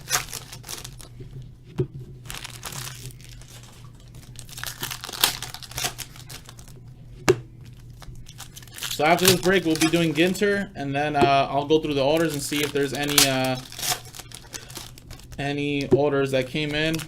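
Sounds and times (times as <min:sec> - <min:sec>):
foil wrappers crinkling: 0:00.0 - 0:01.2, 0:02.2 - 0:06.8, 0:07.6 - 0:10.5, 0:11.6 - 0:17.0.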